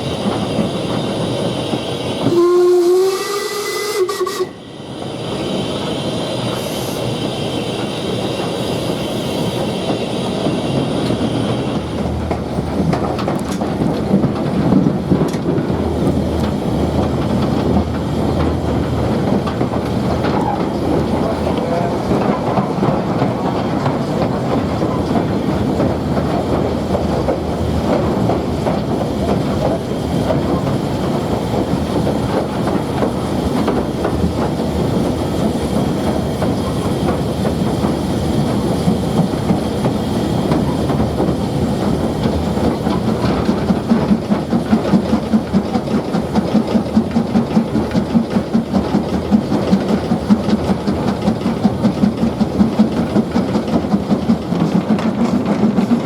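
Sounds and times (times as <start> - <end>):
train rumble and rail noise: 0.0 - 56.0.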